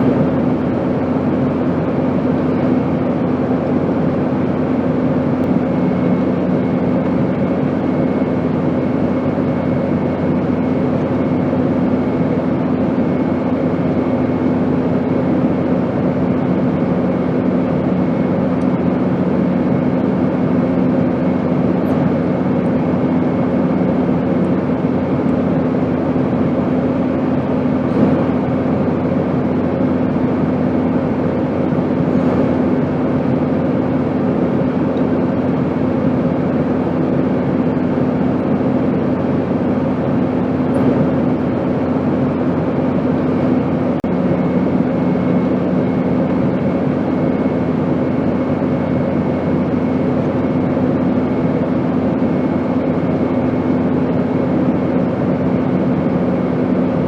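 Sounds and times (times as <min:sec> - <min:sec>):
airplane drone: 0:00.0 - 0:57.0.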